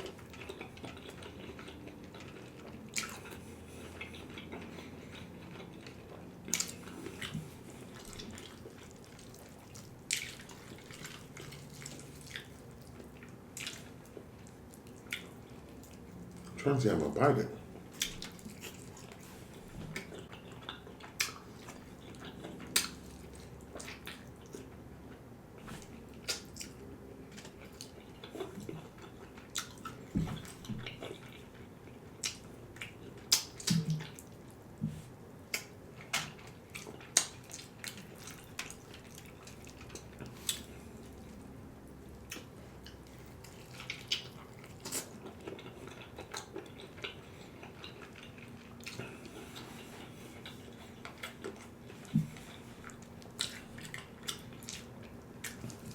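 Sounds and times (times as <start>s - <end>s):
crunchy chewing of fried chicken: 0.0s - 55.9s.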